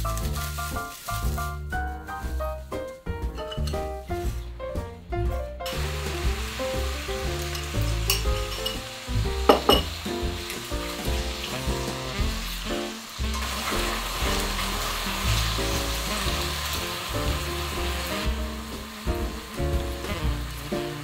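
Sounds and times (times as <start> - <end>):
noodles sizzling in skillet: 0.0 - 2.9, 5.7 - 21.0
background music: 0.0 - 21.0.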